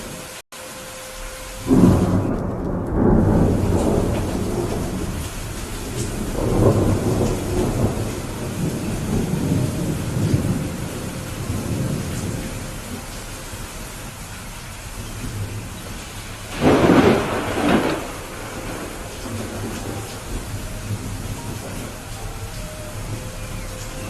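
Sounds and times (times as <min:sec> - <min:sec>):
steady rain: 0:00.0 - 0:24.0
thunder rolling: 0:01.6 - 0:24.0.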